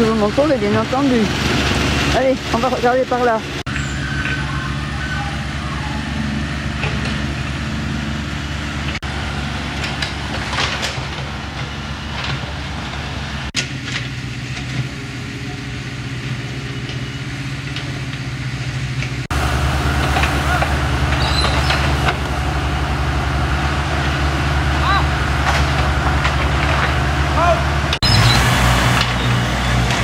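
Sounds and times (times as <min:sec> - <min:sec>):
excavator engines humming: 0:00.0 - 0:30.0.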